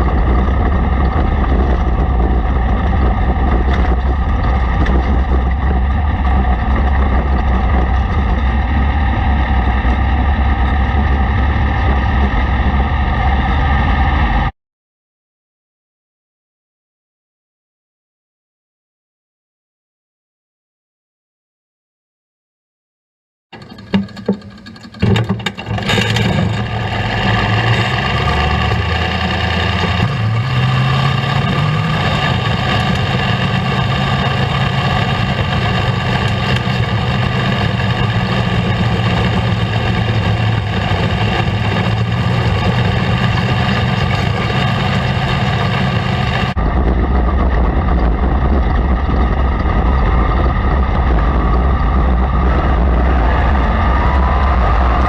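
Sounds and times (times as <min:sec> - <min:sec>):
sprint car engines running: 0:00.0 - 0:14.5, 0:23.6 - 0:55.0.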